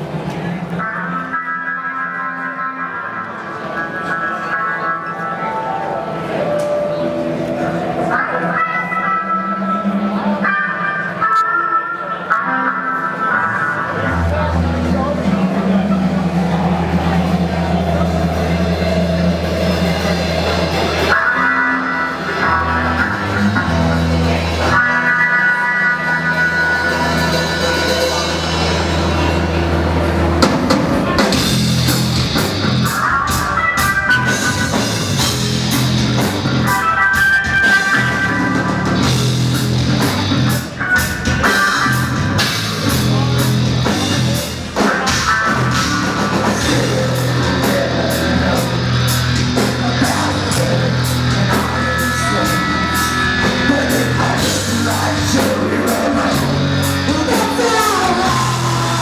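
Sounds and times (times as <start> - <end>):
drums: 0.0 - 59.0
held bass and guitar notes: 0.0 - 59.0
rock band playing live: 0.0 - 59.0.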